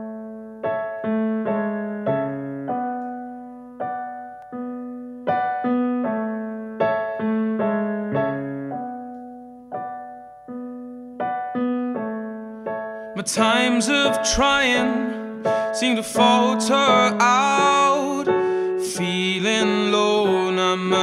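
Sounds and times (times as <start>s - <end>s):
solo piano chords: 0.0s - 21.0s.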